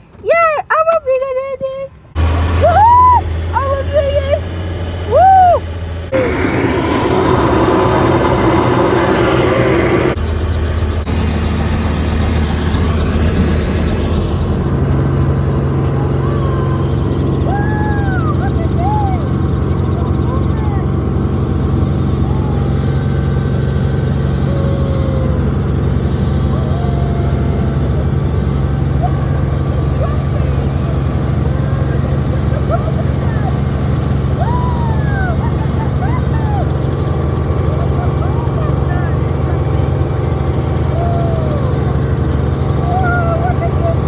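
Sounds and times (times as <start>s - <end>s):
helicopter engine and rotor: 3.2s - 44.0s.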